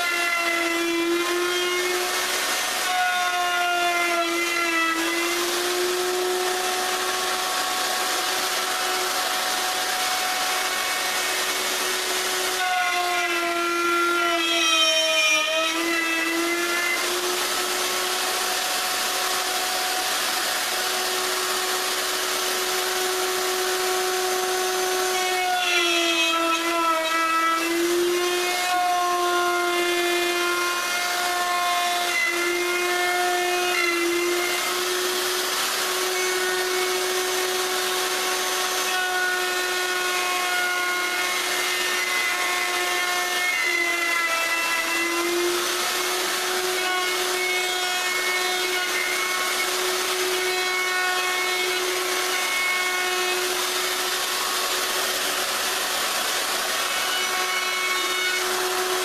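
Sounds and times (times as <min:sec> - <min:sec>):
router motor whining: 0:00.0 - 0:59.0.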